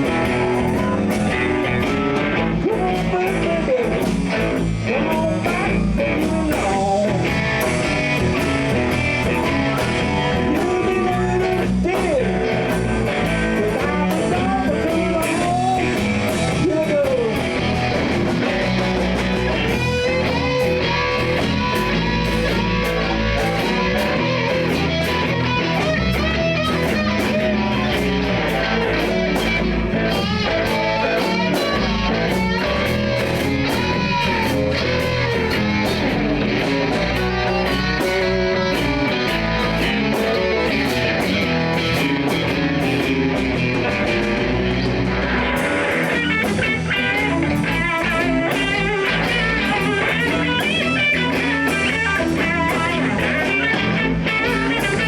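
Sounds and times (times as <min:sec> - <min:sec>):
blues band playing: 0:00.0 - 0:55.0
electric guitar bent notes: 0:00.0 - 0:55.0.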